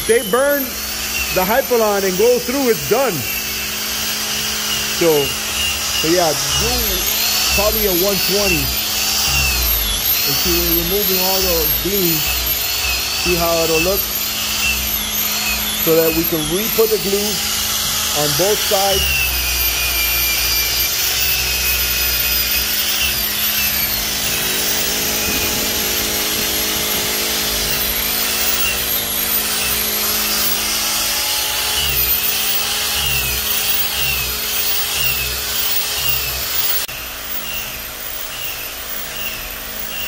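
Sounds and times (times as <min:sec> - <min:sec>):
drill sanding disc grinding rubber: 0:00.0 - 0:40.0.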